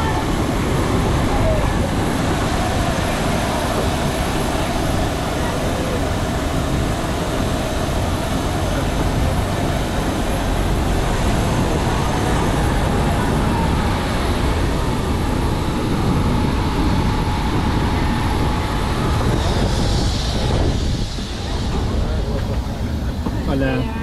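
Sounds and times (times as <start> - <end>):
vehicle interior rumble and hiss: 0.0 - 24.0.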